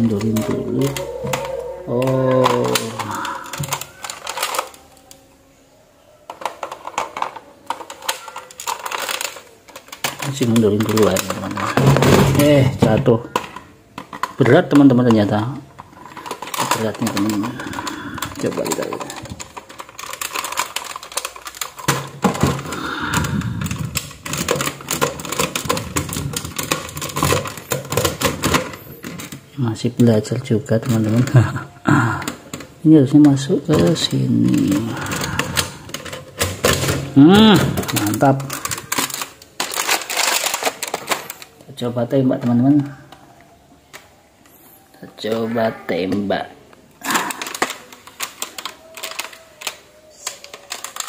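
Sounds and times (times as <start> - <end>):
plastic toy blaster clicks and rattles: 0.0 - 5.2, 6.3 - 29.4, 30.8 - 41.6, 47.0 - 51.0.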